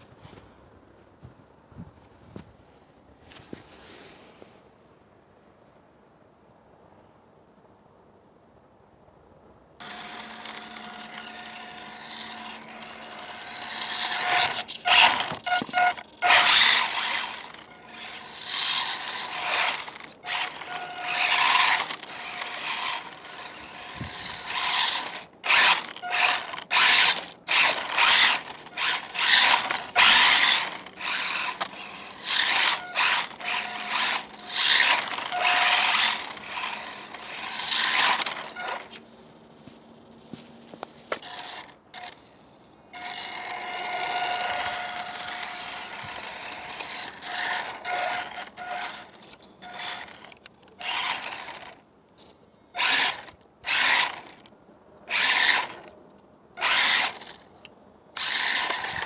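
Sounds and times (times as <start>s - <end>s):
electric motor and gears whirring: 9.8s - 56.0s, 56.6s - 59.0s.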